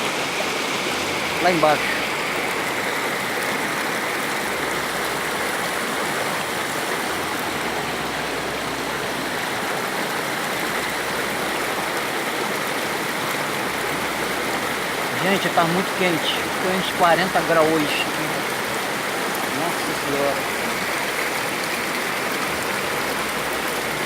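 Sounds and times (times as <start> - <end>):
waterfall and river rushing: 0.0 - 24.0.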